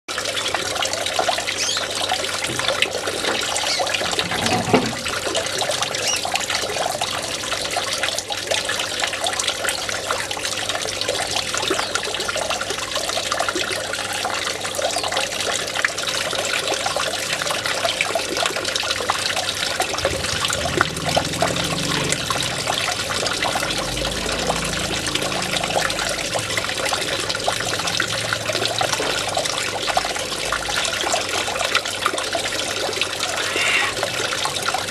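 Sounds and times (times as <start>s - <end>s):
fountain water trickling and splashing: 0.1s - 34.9s.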